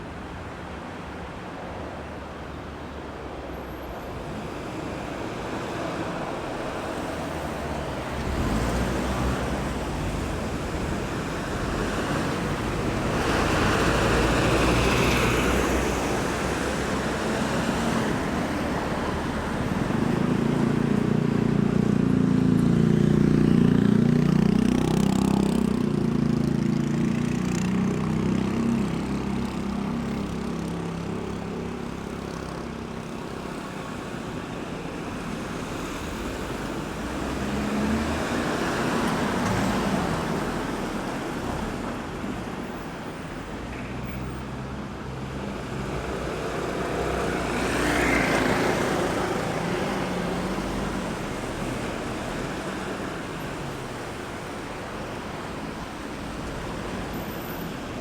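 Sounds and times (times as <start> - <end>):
road traffic passing: 0.0 - 58.0
car passing by: 4.1 - 58.0.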